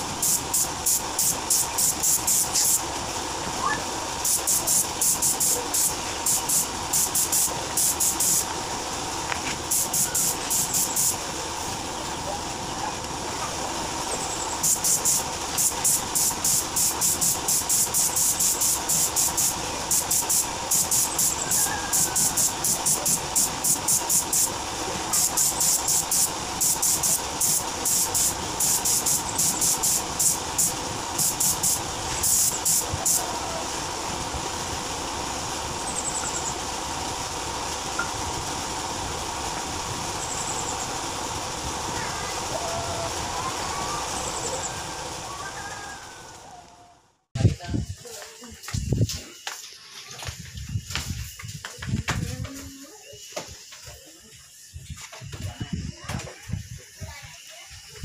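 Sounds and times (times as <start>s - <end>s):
spray gun hissing bursts: 0.0s - 46.6s, 47.8s - 58.0s
steady background noise: 0.0s - 58.0s.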